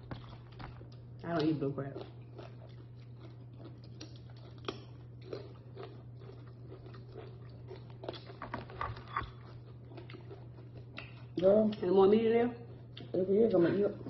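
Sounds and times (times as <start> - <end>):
people chewing: 0.0 - 14.0
steady low hum: 0.0 - 14.0.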